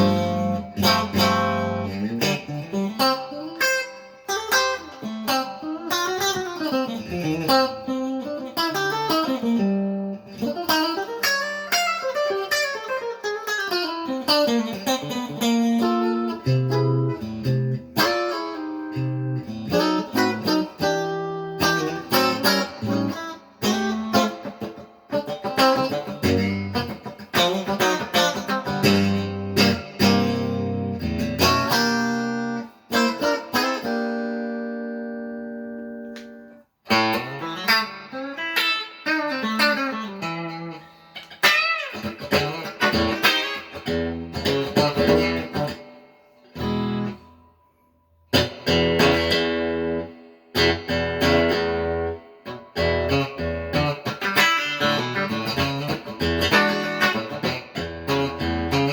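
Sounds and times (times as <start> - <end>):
clean electric guitar playing: 0.0 - 47.7, 48.3 - 58.9.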